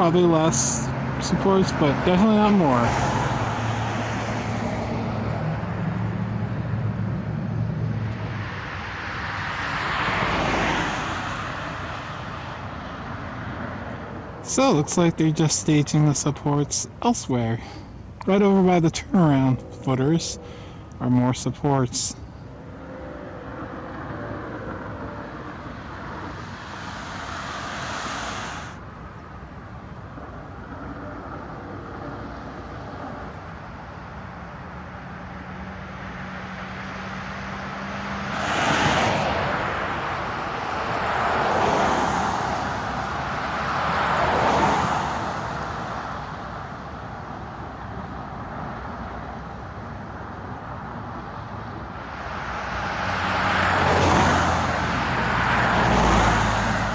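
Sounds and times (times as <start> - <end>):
traffic rumble: 0.0 - 56.9
vehicles passing close: 0.0 - 56.9.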